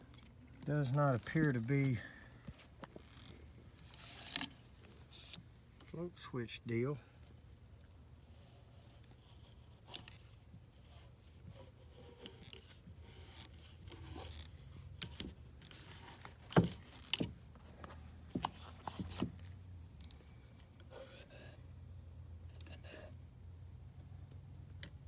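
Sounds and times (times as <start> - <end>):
scraping and rubbing handling noise: 0.0 - 21.6, 22.5 - 23.2.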